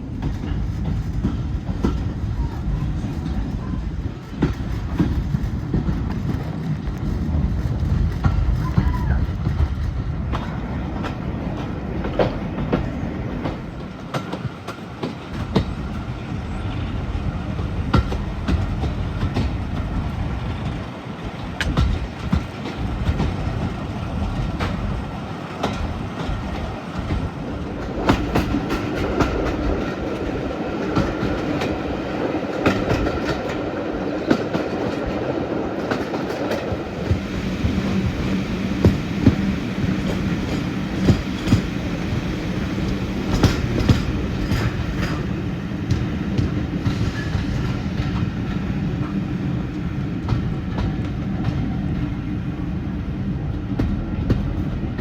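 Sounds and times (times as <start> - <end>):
train rumbling along track: 0.0 - 55.0
wheels clicking over rail joints: 0.1 - 52.2.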